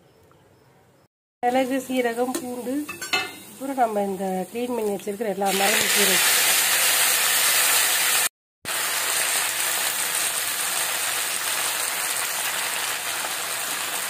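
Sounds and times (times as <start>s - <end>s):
oil sizzling in a pan: 1.5s - 14.0s.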